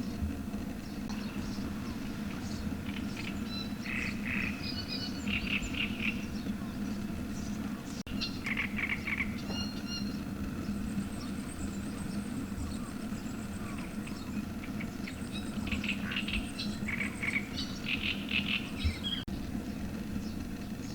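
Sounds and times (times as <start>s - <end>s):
small birds chirping: 0.0s - 20.9s
steady low hum: 0.0s - 20.9s.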